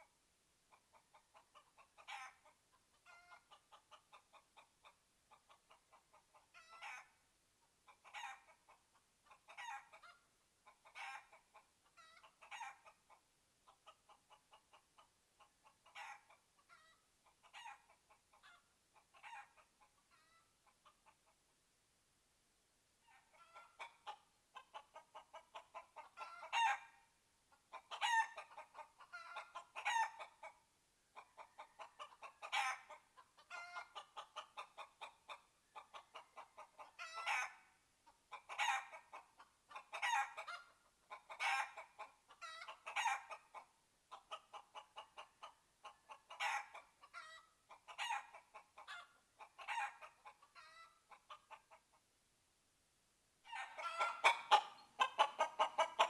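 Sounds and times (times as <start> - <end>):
chicken clucking and squawking: 0.7 - 21.5, 23.0 - 52.1, 53.4 - 56.0.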